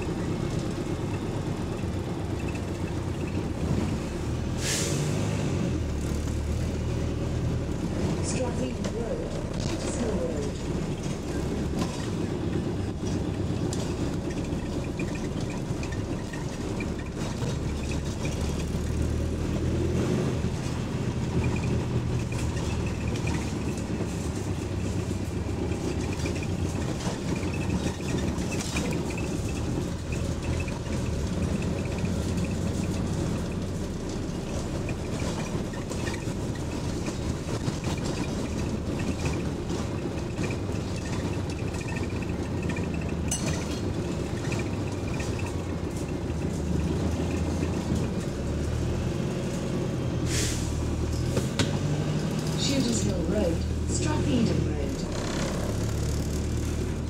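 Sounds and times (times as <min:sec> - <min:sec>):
bus engine droning: 0:00.0 - 0:57.0
bus interior parts rattling: 0:00.0 - 0:57.0.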